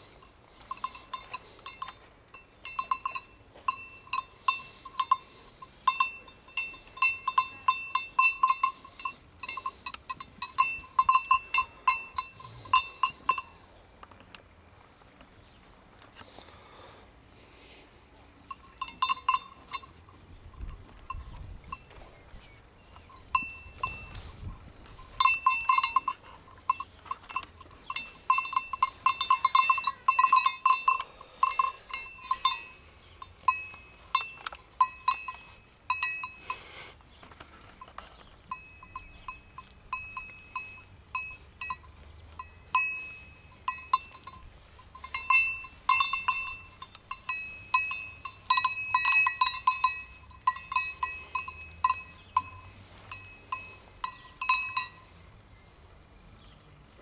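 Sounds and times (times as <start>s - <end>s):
sheep bells clanking: 0.0s - 13.7s, 18.4s - 22.1s, 22.8s - 36.8s, 37.6s - 55.2s.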